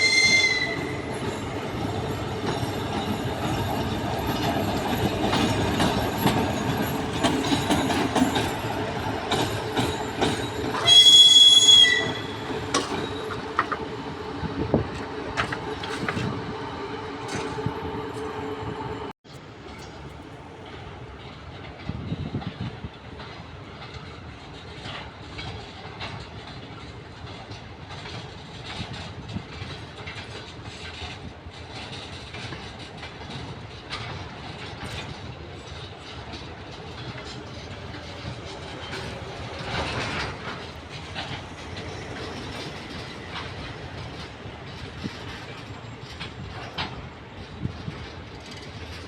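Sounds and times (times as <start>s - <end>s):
diesel locomotive moving: 0.0s - 49.0s
wheels clicking over rail joints: 0.2s - 49.0s.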